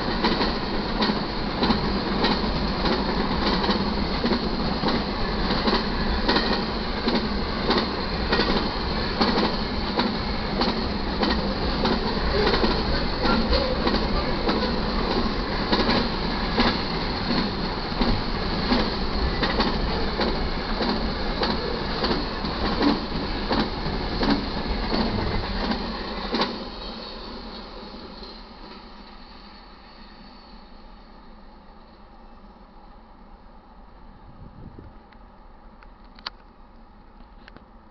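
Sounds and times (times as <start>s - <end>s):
clicks and clacks of rail: 0.0s - 29.2s, 34.8s - 36.6s
train wheels rumbling on rail: 0.0s - 32.9s.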